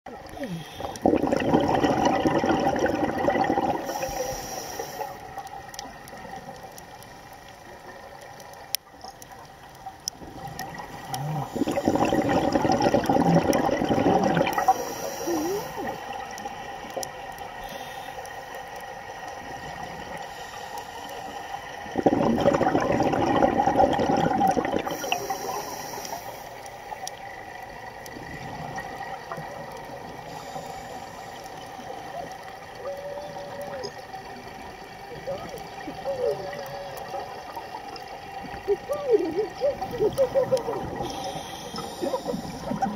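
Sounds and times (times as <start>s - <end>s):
exhaled bubbles underwater: 0.1s - 17.6s, 21.0s - 42.9s
faint regulator hiss: 0.2s - 1.0s, 3.7s - 12.1s, 14.5s - 22.0s, 24.8s - 42.9s.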